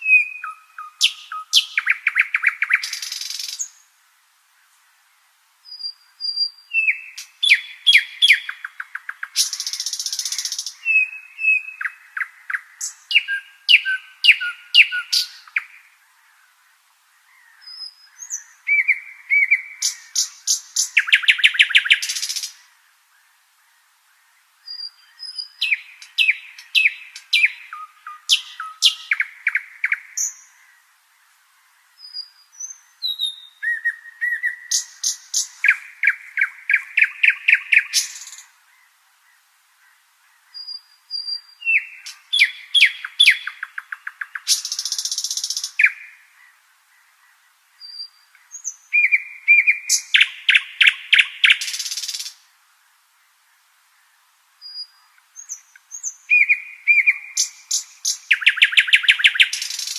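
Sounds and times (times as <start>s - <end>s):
nightingale singing: 0.0s - 52.6s, 53.2s - 59.9s.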